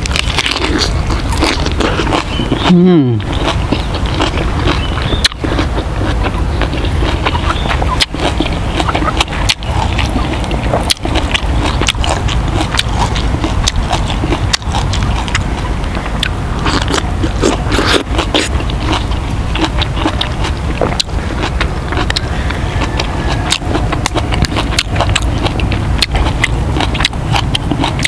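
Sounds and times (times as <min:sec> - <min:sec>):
person eating and chewing: 0:00.0 - 0:28.0
steady low rumble: 0:00.0 - 0:28.0.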